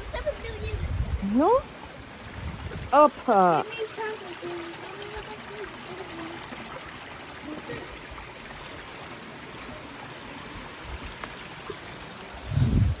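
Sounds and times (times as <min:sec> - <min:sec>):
stream water over rocks: 0:00.0 - 0:13.0.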